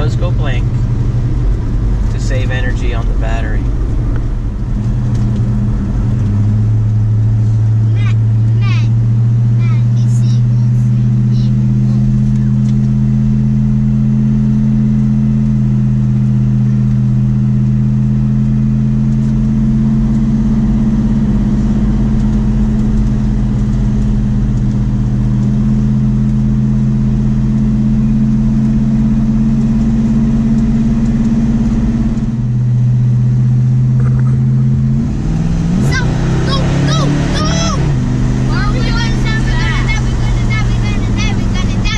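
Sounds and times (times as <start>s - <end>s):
car engine cruising: 0.0s - 41.9s
road noise: 0.0s - 41.9s.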